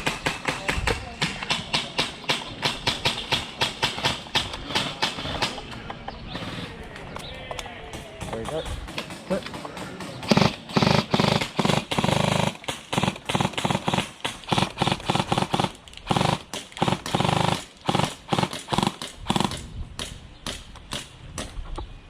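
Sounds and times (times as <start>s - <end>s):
airsoft guns firing: 0.0s - 5.7s, 7.9s - 21.1s.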